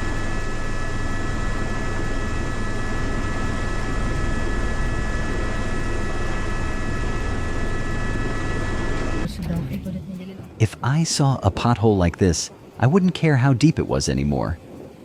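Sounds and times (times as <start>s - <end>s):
high whine: 0.0s - 15.0s
mechanical drone: 0.0s - 15.0s.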